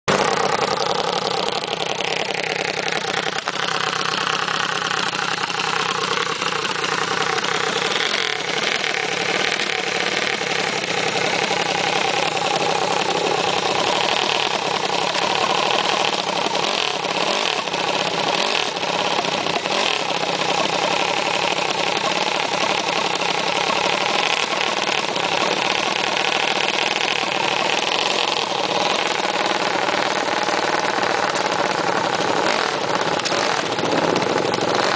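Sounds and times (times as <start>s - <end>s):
small minibike engine running: 0.1s - 34.9s.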